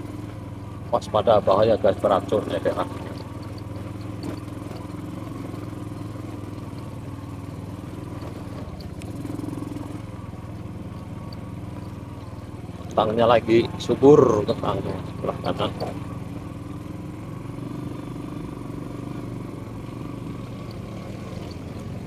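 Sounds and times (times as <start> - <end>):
motor scooter engine running: 0.0 - 22.0.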